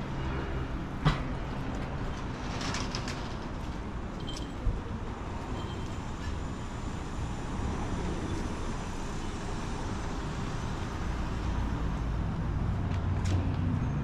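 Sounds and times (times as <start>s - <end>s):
low rumble of road traffic: 0.0s - 14.0s.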